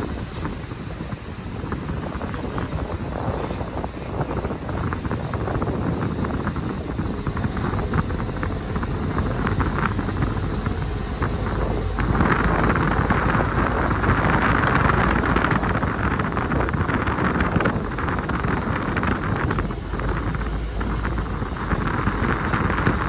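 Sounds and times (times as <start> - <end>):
ferry engine rumble: 0.0 - 23.0
wind on microphone: 0.0 - 23.0.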